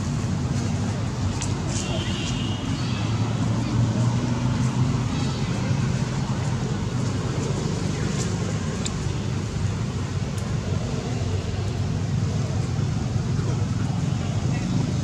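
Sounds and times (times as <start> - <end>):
low rumble of motor vehicles: 0.0 - 15.0.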